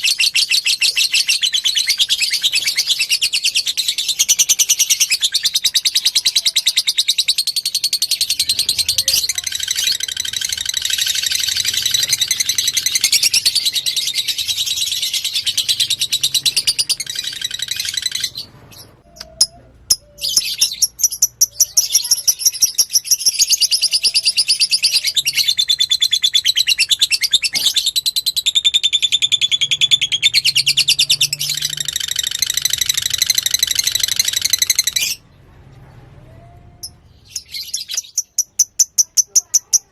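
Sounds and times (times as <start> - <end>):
lovebird chattering song: 0.0 - 35.2, 36.8 - 39.9.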